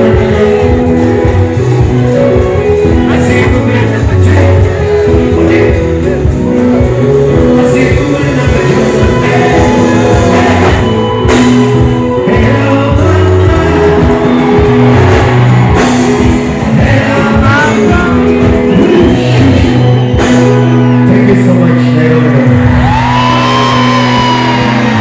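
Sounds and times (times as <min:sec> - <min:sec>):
live band playing loud: 0:00.0 - 0:25.0
person singing: 0:00.0 - 0:25.0.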